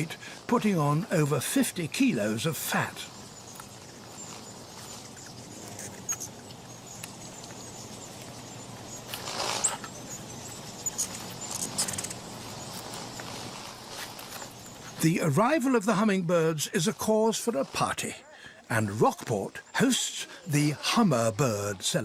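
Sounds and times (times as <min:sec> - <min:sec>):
hummingbird high chips: 0:00.0 - 0:17.9
hummingbird wings whirring: 0:00.0 - 0:18.2.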